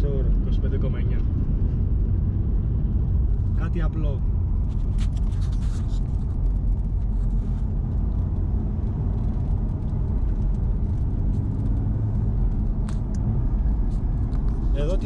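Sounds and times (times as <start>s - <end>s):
car engine rumble: 0.0s - 15.0s
wind noise: 0.0s - 15.0s.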